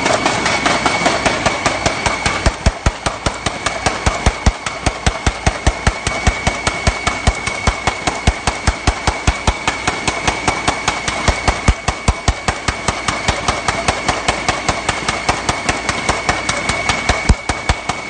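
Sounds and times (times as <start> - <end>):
machine clacking rapidly: 0.0 - 18.0
machine high whine: 0.0 - 18.0.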